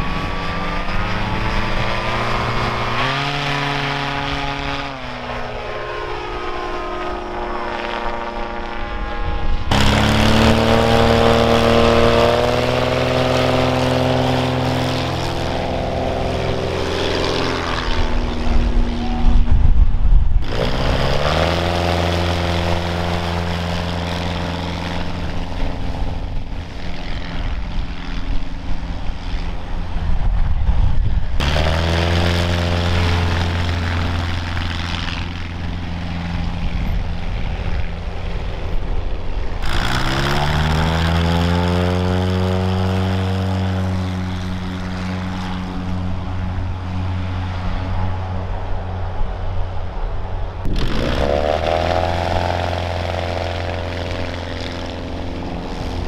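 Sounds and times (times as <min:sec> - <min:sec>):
propeller plane engine at full power: 0:00.0 - 0:56.0.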